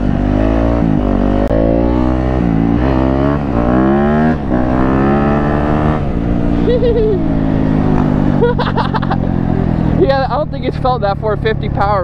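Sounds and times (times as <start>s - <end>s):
motorcycle engine revving hard: 0.0s - 10.4s.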